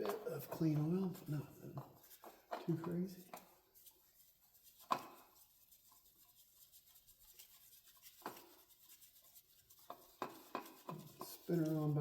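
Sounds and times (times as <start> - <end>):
faint rubbing: 0.0 - 12.0.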